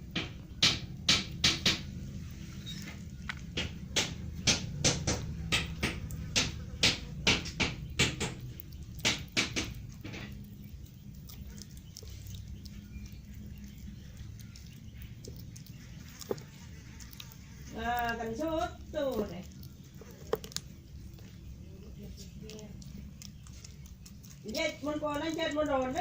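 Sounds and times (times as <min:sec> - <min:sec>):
kitten crunching bites: 0:00.2 - 0:26.0.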